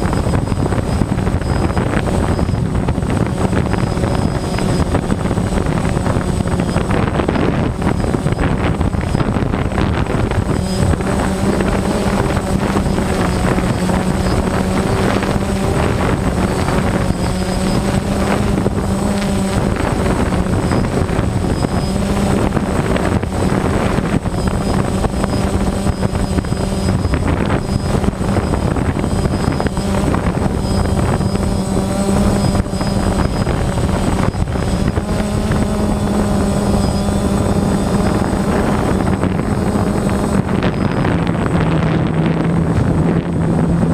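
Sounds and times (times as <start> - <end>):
low hum: 0.0 - 43.9
strong wind blowing: 0.0 - 43.9.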